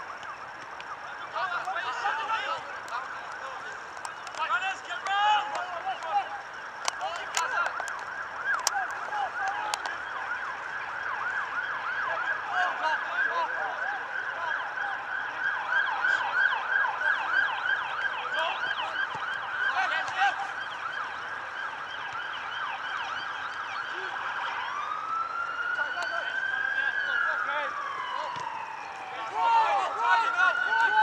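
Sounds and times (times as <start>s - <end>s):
emergency siren yelping: 0.0s - 31.0s.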